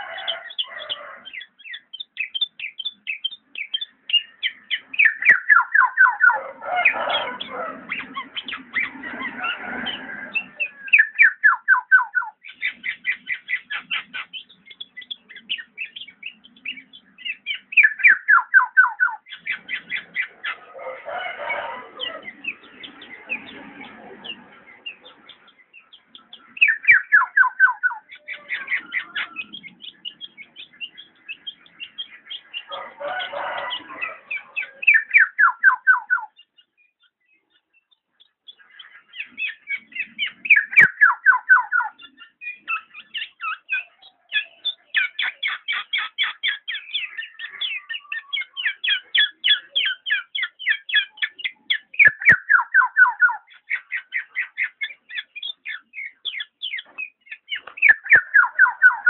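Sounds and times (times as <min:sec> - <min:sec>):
harsh bird calls: 0:00.0 - 0:59.0.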